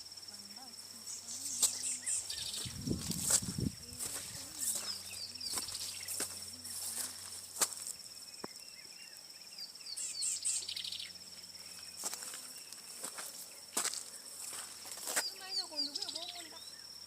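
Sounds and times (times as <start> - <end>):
birds chirping: 0.0 - 17.0
insects droning: 0.0 - 17.0.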